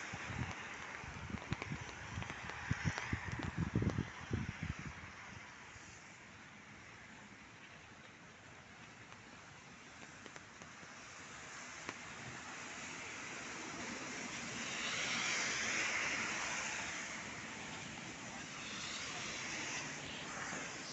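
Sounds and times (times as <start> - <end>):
car tyres hissing on wet road: 0.0 - 20.9
steady rain hiss: 0.0 - 20.9.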